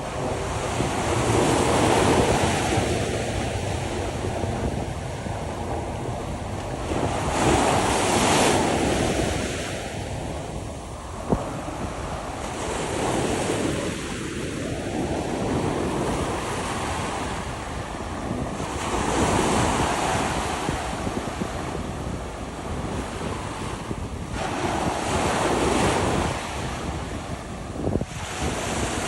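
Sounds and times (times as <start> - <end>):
ocean surf breaking on beach: 0.0 - 29.0
wind buffeting microphone: 0.0 - 29.0.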